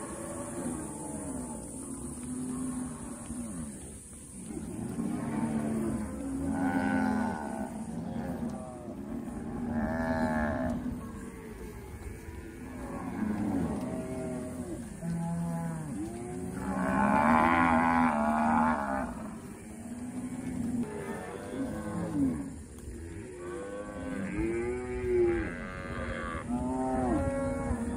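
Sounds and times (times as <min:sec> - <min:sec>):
cattle mooing: 0:00.0 - 0:27.9.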